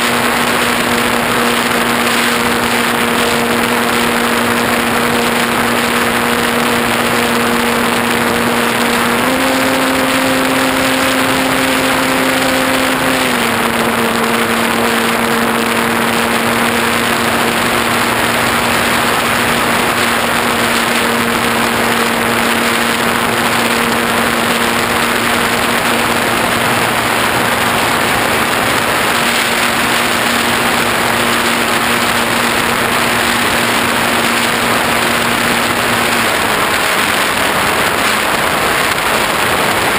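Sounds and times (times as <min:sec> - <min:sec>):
model plane motor humming: 0:00.0 - 0:39.9
wind rushing across microphone: 0:00.0 - 0:39.9.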